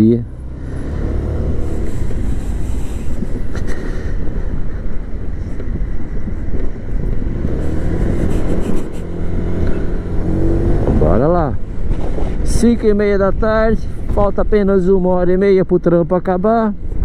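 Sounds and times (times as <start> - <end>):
muffled scooter engine and wind: 0.0 - 17.0.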